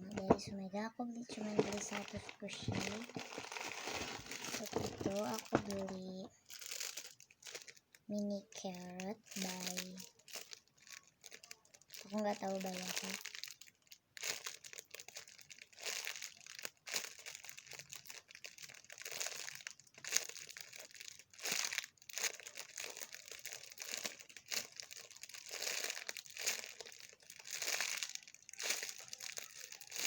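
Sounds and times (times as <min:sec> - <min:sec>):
plastic packaging crinkling: 0:00.0 - 0:30.0.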